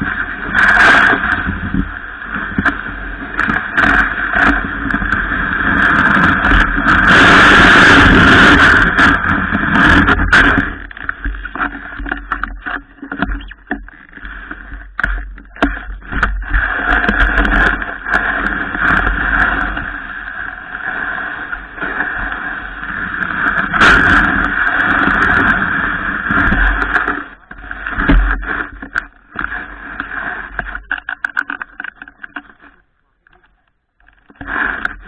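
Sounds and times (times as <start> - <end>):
snowboard scraping over snow: 0.0 - 31.2.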